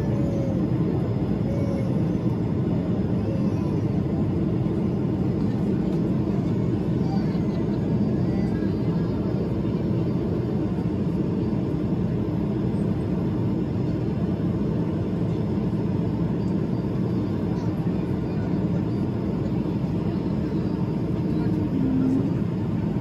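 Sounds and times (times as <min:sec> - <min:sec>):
jet cabin engine rumble: 0:00.0 - 0:23.0.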